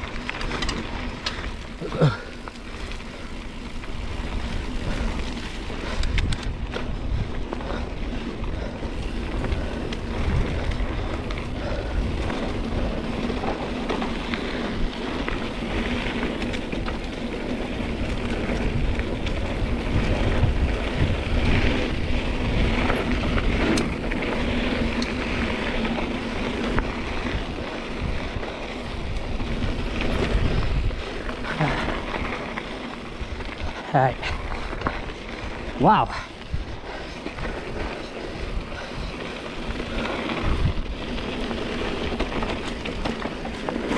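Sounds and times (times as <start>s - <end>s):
bike rattles and clicks: 0.0s - 43.9s
bike tyres on dirt: 0.0s - 43.9s
wind buffeting microphone: 0.0s - 43.9s.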